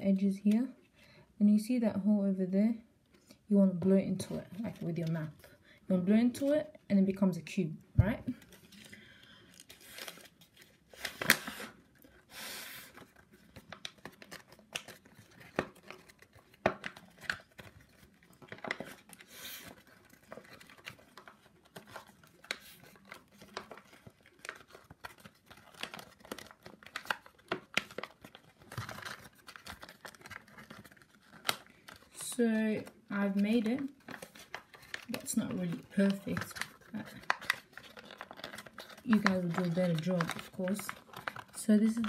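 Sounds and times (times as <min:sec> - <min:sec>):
paper crinkling: 0:08.3 - 0:42.0.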